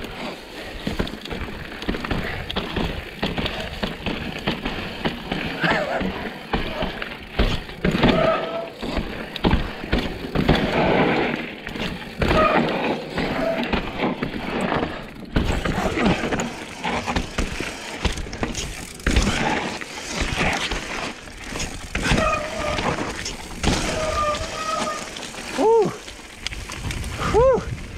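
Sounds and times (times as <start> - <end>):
mountain bike rattling: 0.0 - 27.9
wheels knocking on rocks: 0.0 - 27.9.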